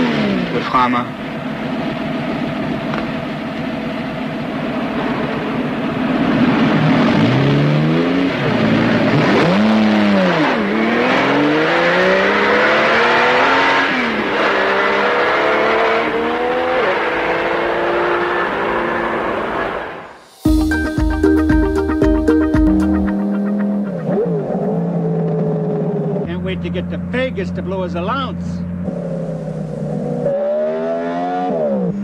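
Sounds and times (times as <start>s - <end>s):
sports car engine revving: 0.0s - 20.0s, 22.8s - 27.7s, 28.6s - 32.0s.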